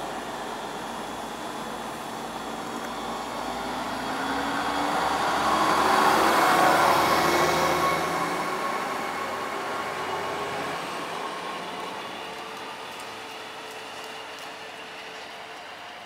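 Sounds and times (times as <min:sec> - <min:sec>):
diesel train engines running: 0:00.0 - 0:16.0.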